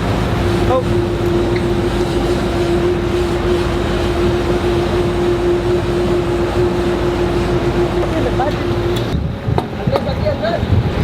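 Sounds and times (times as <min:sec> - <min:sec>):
boat engines humming: 0:00.0 - 0:11.0
wind and water rushing: 0:00.0 - 0:11.0.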